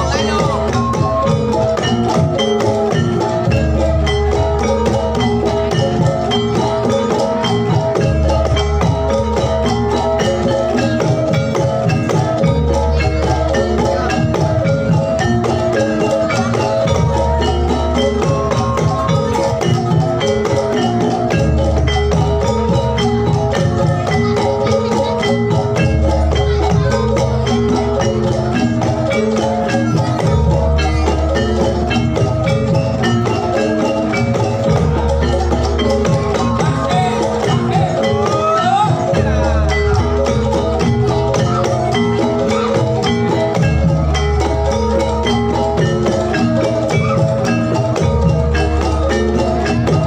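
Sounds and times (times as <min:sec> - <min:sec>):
metallophones ringing busy melody: 0:00.0 - 0:50.0.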